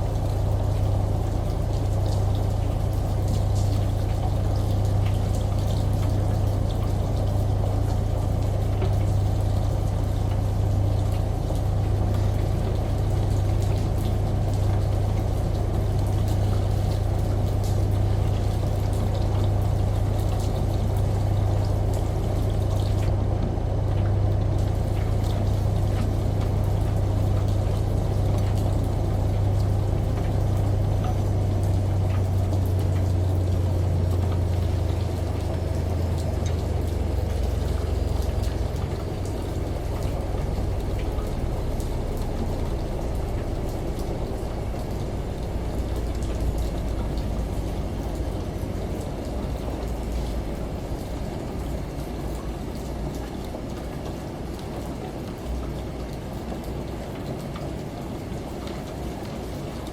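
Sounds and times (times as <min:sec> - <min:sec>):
washing machine hum: 0:00.0 - 0:59.9.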